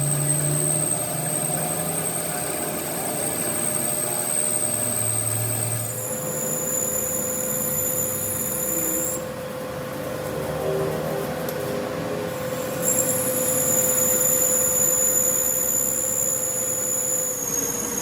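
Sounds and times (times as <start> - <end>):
machine high-pitched whine: 0.0 - 18.0
mechanical hum: 0.0 - 18.0.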